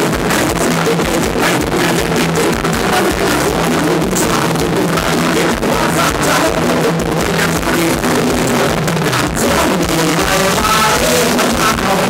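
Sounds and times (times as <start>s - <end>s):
drum kit steady beat: 0.0s - 12.0s
live band dance music: 0.0s - 12.0s.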